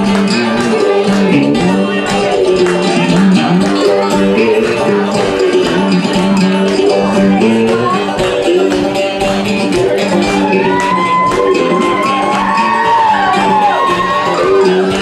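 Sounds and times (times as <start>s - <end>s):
guitar strumming: 0.0s - 15.0s
harmonica playing: 0.0s - 15.0s.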